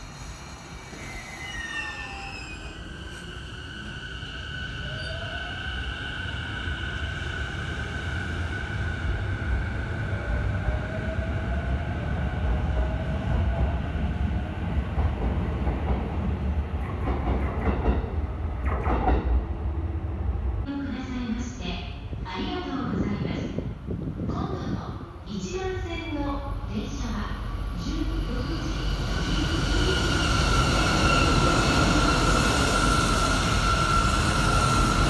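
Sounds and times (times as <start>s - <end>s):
low train rumble: 0.0s - 35.0s.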